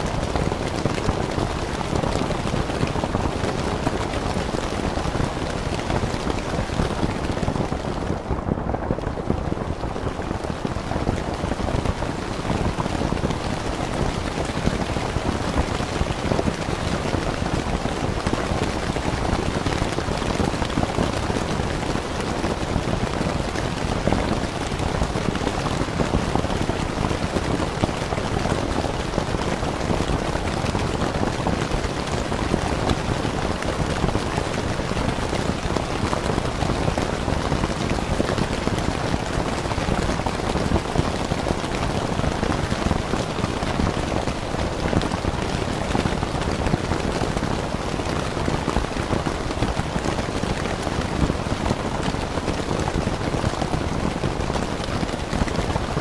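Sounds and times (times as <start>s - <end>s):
rain falling on a tent: 0.0s - 56.0s.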